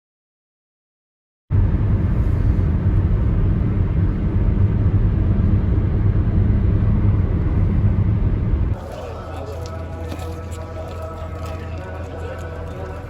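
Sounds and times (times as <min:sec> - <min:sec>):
vehicle driving rumble: 0:01.5 - 0:13.0.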